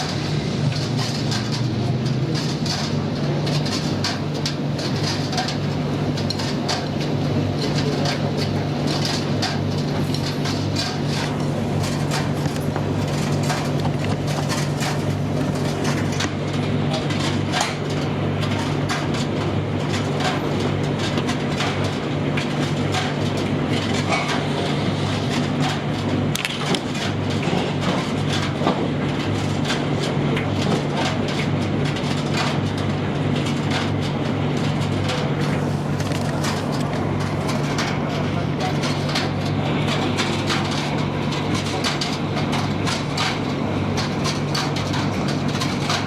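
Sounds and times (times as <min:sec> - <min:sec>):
tumble dryer humming: 0:00.0 - 0:46.0.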